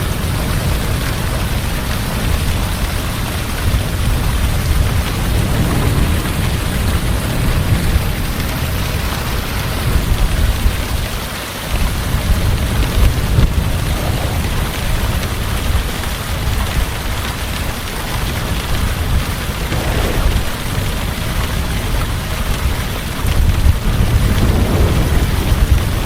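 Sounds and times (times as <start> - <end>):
heavy rain falling: 0.0 - 26.0
low rumble of thunder: 0.0 - 26.0.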